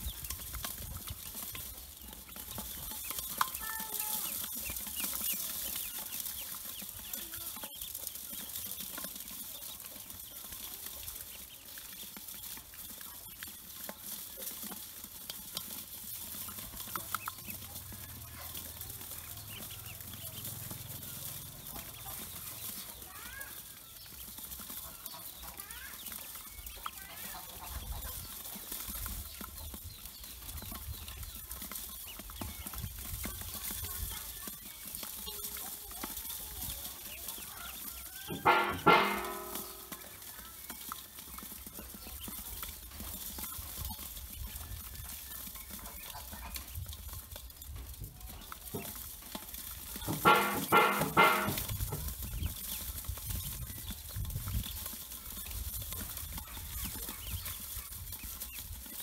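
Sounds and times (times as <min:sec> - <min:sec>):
bills pecking metal bowl: 0:00.0 - 0:59.0
ducklings peeping: 0:00.0 - 0:59.0.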